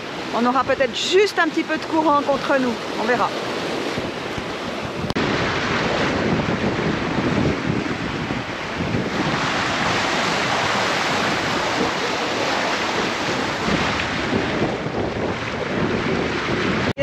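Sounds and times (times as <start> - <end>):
sea waves: 0.0 - 17.0
wind buffeting microphone: 0.0 - 17.0.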